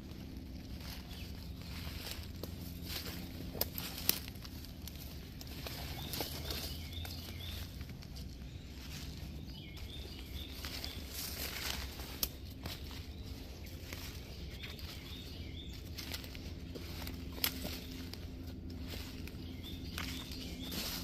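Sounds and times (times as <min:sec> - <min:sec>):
footsteps crunching dry leaves: 0:00.0 - 0:21.0
small bird chirping: 0:00.7 - 0:21.0
twigs snapping: 0:00.8 - 0:08.5, 0:09.8 - 0:15.1, 0:16.0 - 0:21.0.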